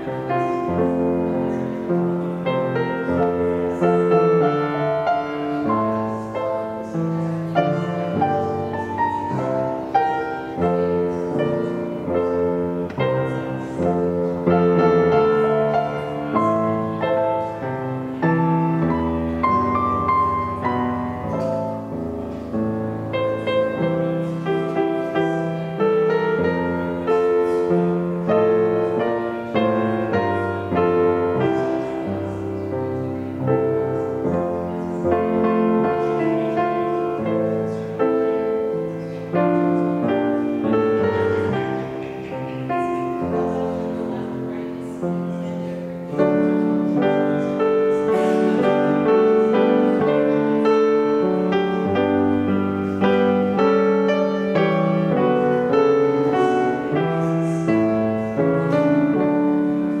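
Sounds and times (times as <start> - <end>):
slow solo piano: 0.0 - 60.0.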